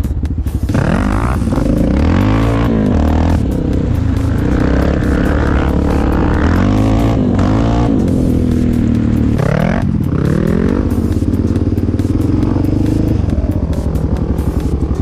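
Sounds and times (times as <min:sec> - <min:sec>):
quad engine revving: 0:00.7 - 0:15.0.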